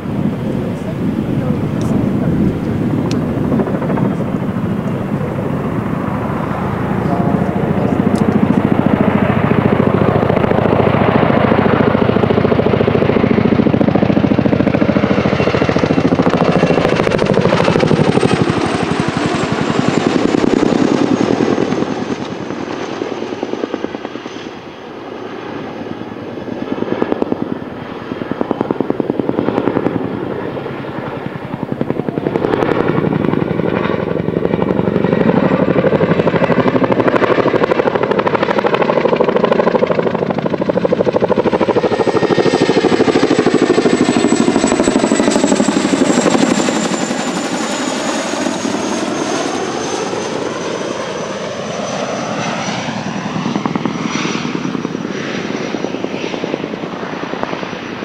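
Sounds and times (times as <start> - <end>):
helicopter rotors beating: 0.0 - 58.0
turbine whine: 0.0 - 58.0.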